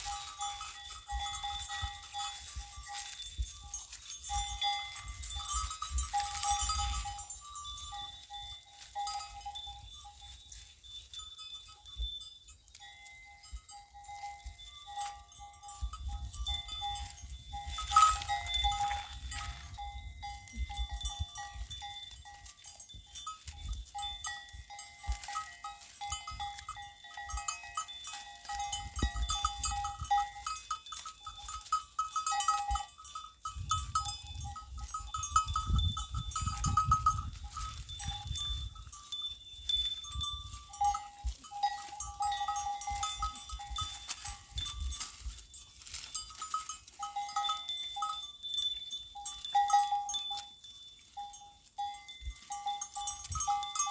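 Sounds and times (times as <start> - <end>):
leaves and twigs rustling: 0.0 - 53.9.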